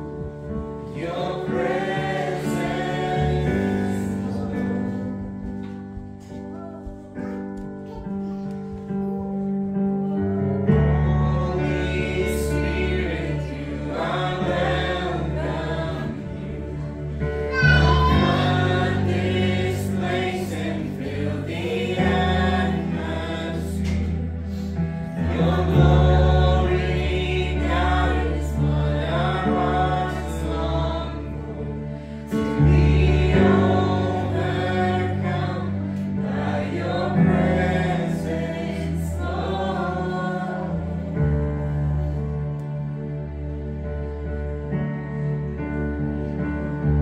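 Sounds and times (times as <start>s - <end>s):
group singing: 0.0s - 5.6s, 10.7s - 42.8s.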